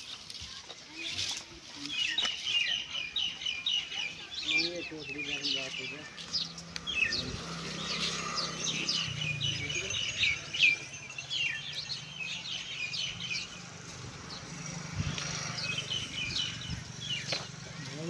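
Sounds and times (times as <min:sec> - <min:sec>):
small birds chirping: 0:00.1 - 0:18.0.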